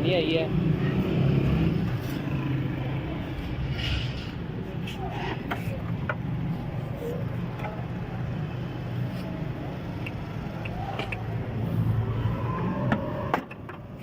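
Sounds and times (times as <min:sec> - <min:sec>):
motor vehicles rumbling: 0:00.0 - 0:14.0.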